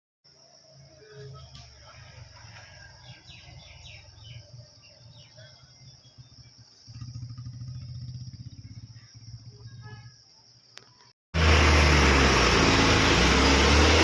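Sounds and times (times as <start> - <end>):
engine and road noise: 0.3 - 9.8, 10.7 - 14.0
engine running with pulsing rumble: 1.2 - 10.1, 11.4 - 14.0.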